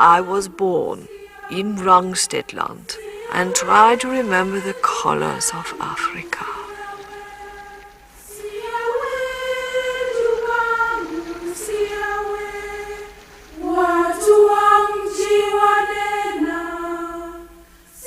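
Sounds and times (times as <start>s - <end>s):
choir of high voices singing: 0.0s - 18.0s.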